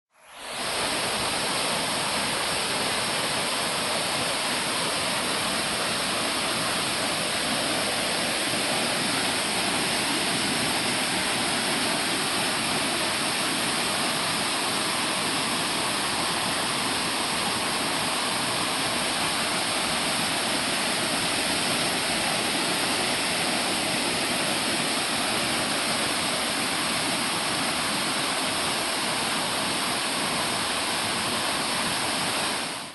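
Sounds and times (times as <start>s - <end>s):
waterfall roaring: 0.2s - 32.9s.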